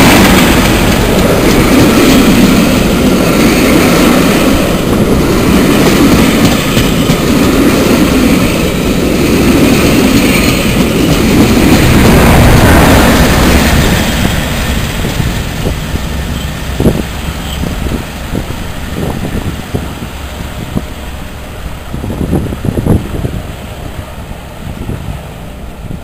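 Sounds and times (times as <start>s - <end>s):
diesel locomotive passing: 0.0s - 26.0s.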